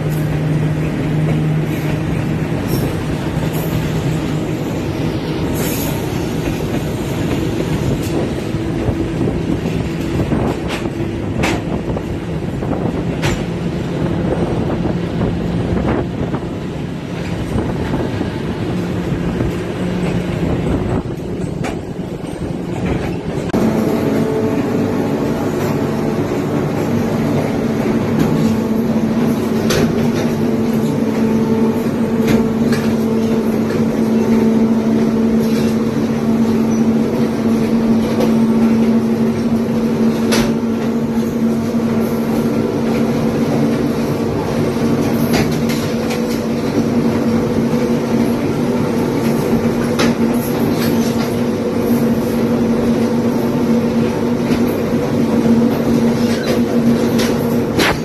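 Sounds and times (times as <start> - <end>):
diesel locomotive engine drone: 0.0 - 58.0
train running noise: 0.0 - 58.0
knocks from train running gear: 5.5 - 14.8, 17.1 - 52.1, 53.1 - 58.0.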